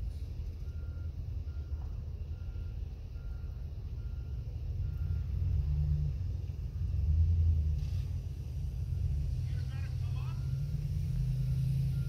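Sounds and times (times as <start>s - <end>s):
truck engine running low: 0.0s - 12.0s.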